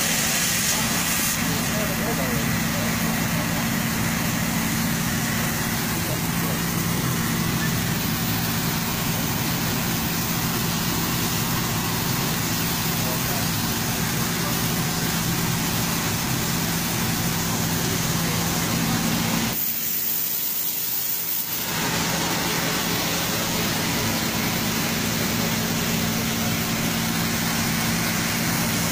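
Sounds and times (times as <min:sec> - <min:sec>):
steady engine hum: 0:00.0 - 0:19.6, 0:20.2 - 0:28.9
hose nozzle spraying water: 0:00.0 - 0:28.9.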